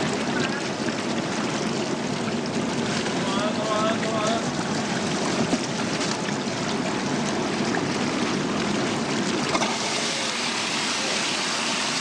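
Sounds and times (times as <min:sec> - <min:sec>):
water churning and bubbling in tank: 0:00.0 - 0:12.0.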